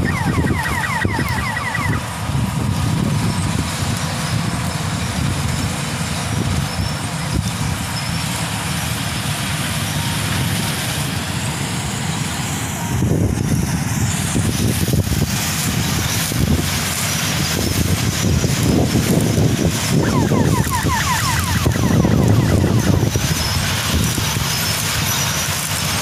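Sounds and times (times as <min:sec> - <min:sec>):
distant combine harvester rumble: 0:00.0 - 0:26.0.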